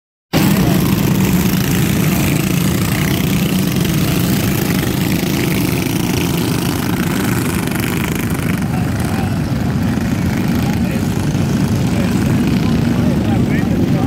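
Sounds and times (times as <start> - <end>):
race car engines at speed: 0.3 - 14.0.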